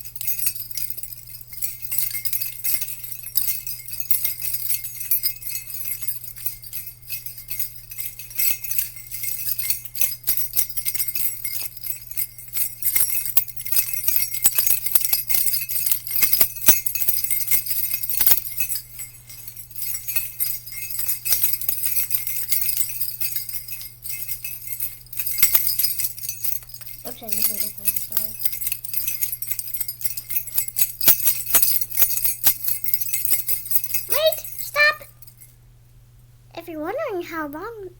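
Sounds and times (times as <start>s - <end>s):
jingle bells jingling: 0.0s - 35.6s
faint low hum: 0.0s - 37.9s.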